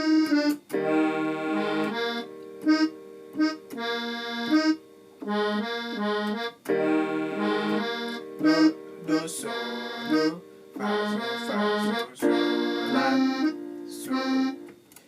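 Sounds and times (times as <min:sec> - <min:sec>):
electronic keyboard organ chords: 0:00.0 - 0:14.9.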